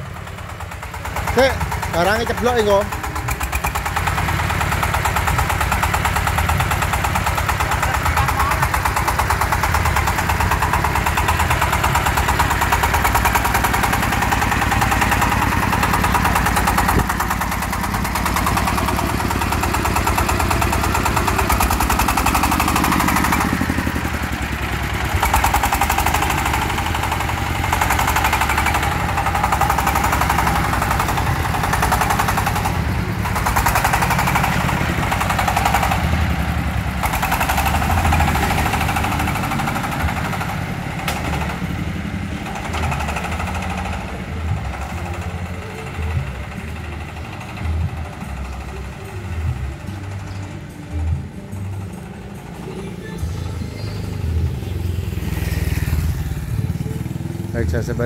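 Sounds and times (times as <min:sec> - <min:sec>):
diesel engine thumping: 0:00.0 - 0:58.0.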